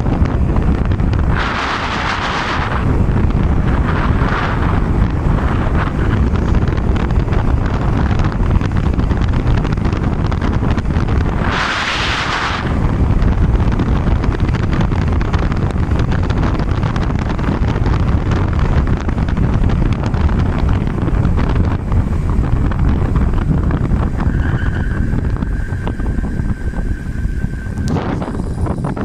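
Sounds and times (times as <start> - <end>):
low rumble: 0.0 - 29.0
thin steady whine: 0.0 - 29.0
wind buffeting microphone: 0.0 - 29.0.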